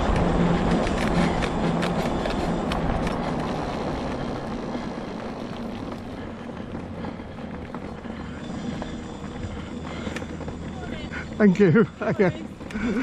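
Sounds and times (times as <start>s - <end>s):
scooter motor hum: 0.0s - 13.0s
tyres rolling on trail: 0.0s - 13.0s.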